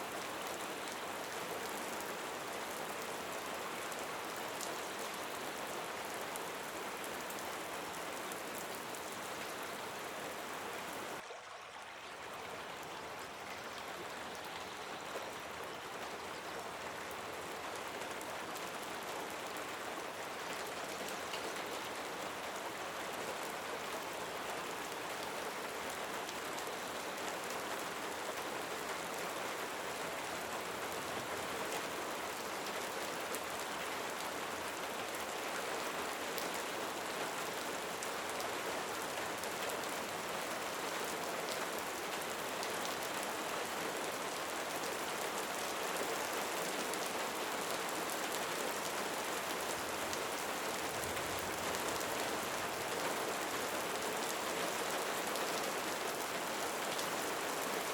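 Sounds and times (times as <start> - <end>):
steady rain falling: 0.0 - 11.4, 12.0 - 57.9.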